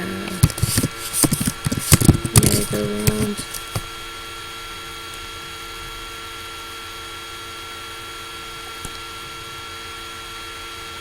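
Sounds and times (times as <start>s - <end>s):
laptop cooling fan whirring: 0.0s - 11.0s.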